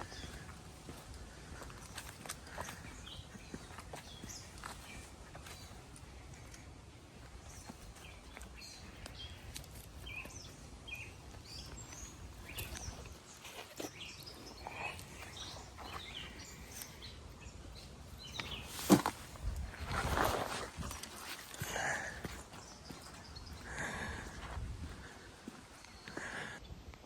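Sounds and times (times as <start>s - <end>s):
birds chirping: 0.0s - 26.9s
outdoor background noise: 0.0s - 27.0s.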